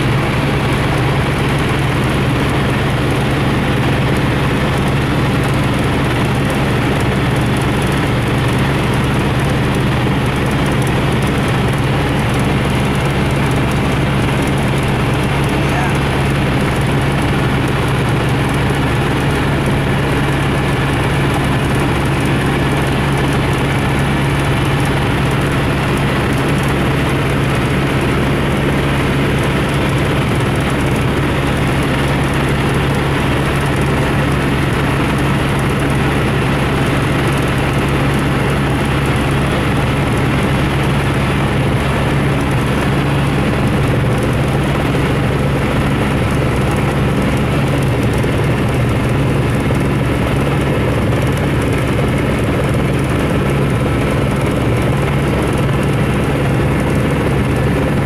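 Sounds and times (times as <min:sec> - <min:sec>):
aircraft engine and propeller hum: 0:00.0 - 0:58.0.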